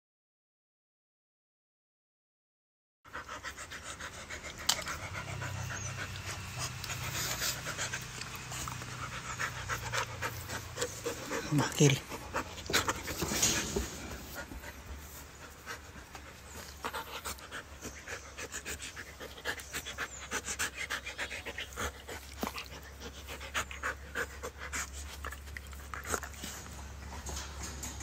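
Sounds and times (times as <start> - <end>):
dog panting: 3.1 - 28.0.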